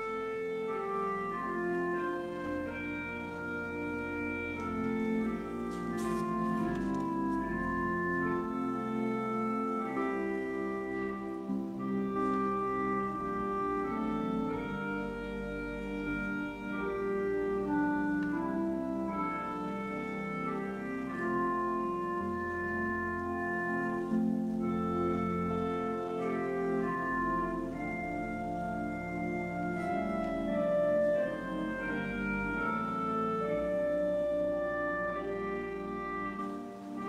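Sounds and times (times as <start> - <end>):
church organ playing chords: 0.0 - 37.0.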